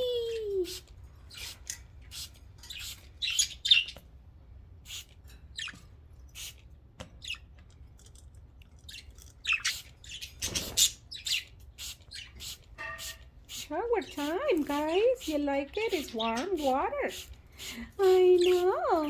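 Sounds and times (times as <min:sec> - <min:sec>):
budgerigars chirping and squawking: 0:00.7 - 0:04.0, 0:04.9 - 0:07.5, 0:08.9 - 0:19.0.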